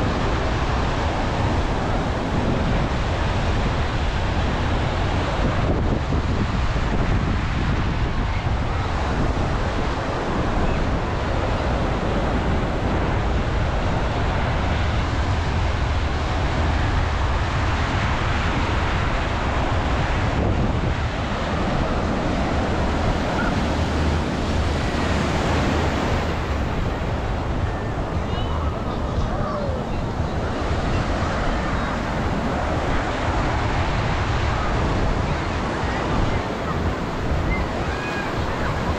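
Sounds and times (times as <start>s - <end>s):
sea surf washing onto beach: 0.0s - 38.9s
wind rumbling on microphone: 0.0s - 38.9s.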